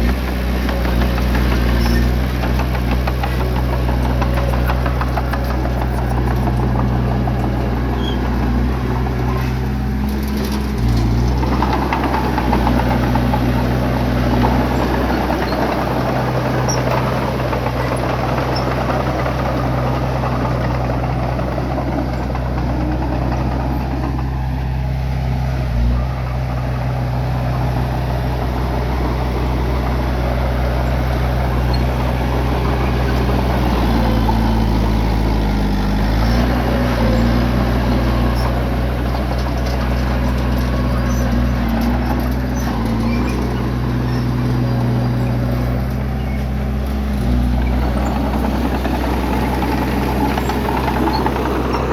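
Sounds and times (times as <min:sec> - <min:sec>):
bulldozer diesel engine running: 0:00.0 - 0:51.9
noisy rumble: 0:00.0 - 0:51.9.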